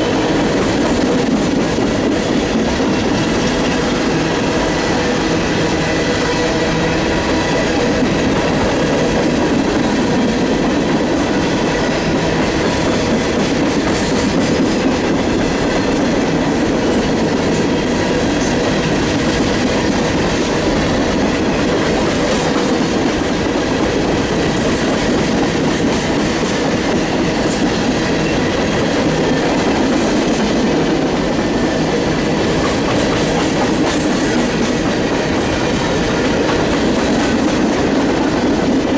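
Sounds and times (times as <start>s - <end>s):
train wheels on rails: 0.0s - 38.9s.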